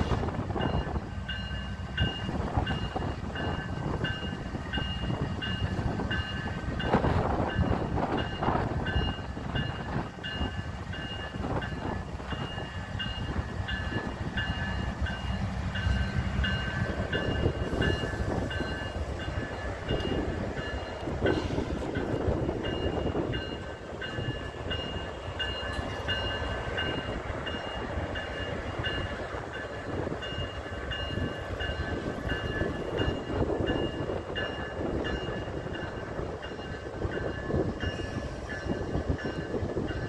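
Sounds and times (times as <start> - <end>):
low rumble of train cars: 0.0 - 40.0.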